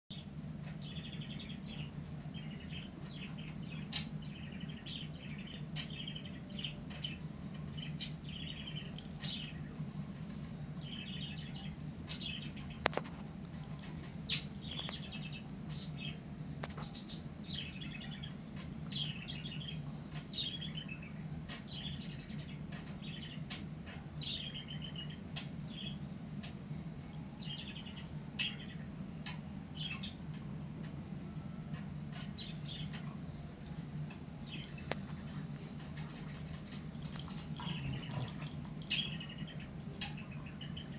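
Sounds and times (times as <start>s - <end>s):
steady low hum: 0.1s - 40.9s.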